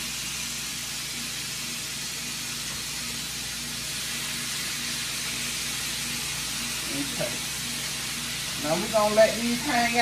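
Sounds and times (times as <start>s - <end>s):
meat sizzling in a skillet: 0.0s - 10.0s.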